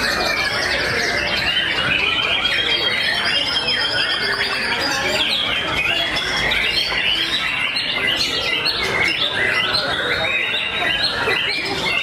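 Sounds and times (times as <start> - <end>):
songbirds whistling and trilling: 0.0 - 12.0.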